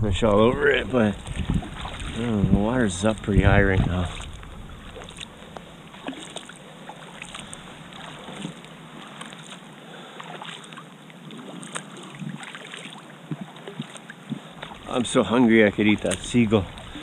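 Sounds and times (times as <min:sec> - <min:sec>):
paddle dipping in water: 0:00.2 - 0:17.0
small splashes and drips: 0:00.9 - 0:17.0.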